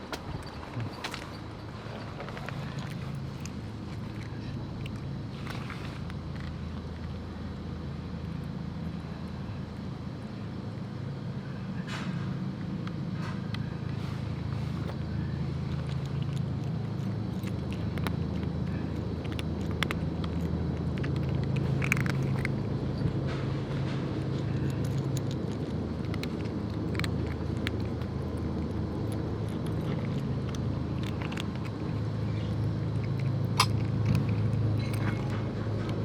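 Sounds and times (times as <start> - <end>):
engine running: 0.0 - 36.0.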